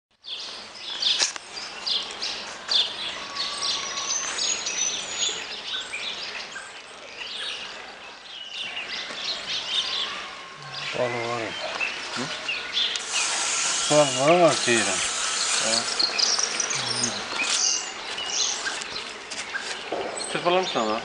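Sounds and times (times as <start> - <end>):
birds chirping and calling: 0.2 - 21.0.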